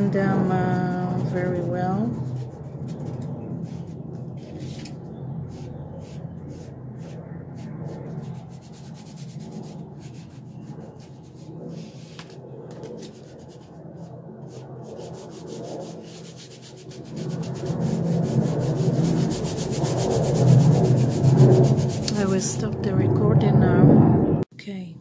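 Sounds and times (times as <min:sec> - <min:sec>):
hands rubbing paint on paper: 0:00.4 - 0:22.6.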